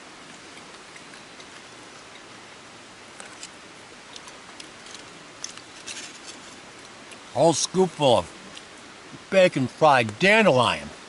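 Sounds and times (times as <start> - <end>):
light rain hiss: 0.0 - 11.0.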